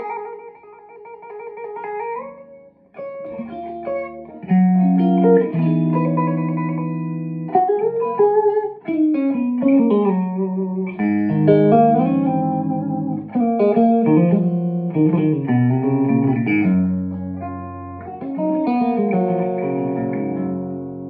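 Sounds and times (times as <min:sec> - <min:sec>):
clean electric guitar: 0:00.0 - 0:21.0.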